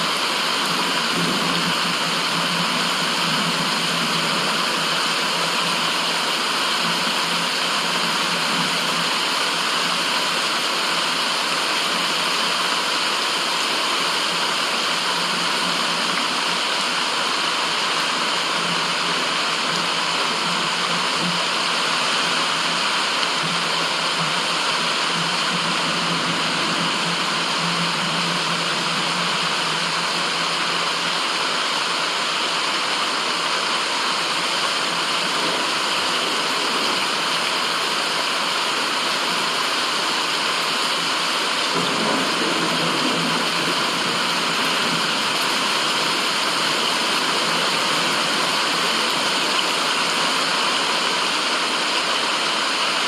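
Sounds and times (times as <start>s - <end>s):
water rushing: 0.0s - 53.0s.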